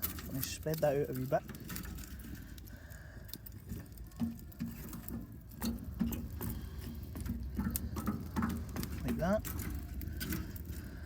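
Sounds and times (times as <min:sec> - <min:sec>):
scraping and clinking in barbecue: 0:00.0 - 0:11.0.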